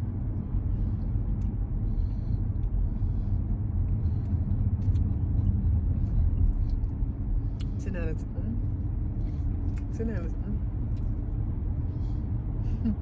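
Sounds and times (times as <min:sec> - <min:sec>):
vehicle motor rumble inside car: 0:00.0 - 0:13.0.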